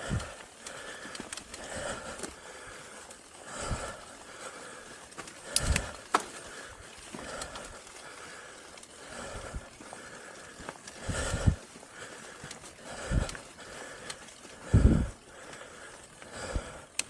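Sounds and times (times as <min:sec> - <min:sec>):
bike rumbling and rattling: 0:00.0 - 0:17.0
person breathing heavily: 0:00.0 - 0:17.0.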